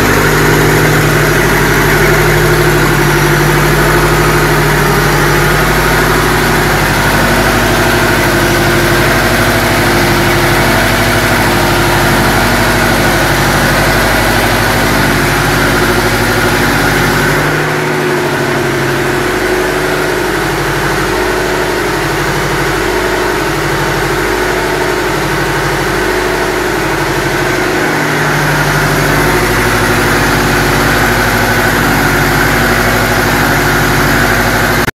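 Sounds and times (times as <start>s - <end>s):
marine diesel engine running: 0.0s - 35.0s.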